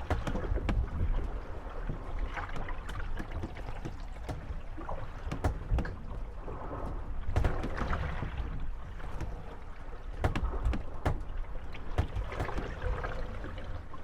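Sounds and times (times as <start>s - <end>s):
water lapping against hulls: 0.0s - 14.0s
wooden boats knocking and creaking: 0.0s - 14.0s.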